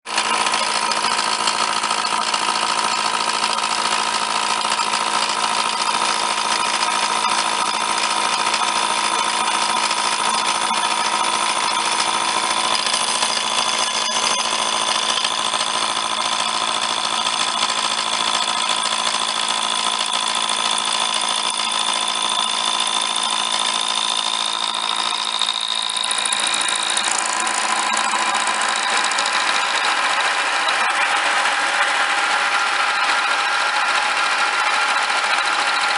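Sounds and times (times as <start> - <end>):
milling machine whine: 0.1 - 35.9.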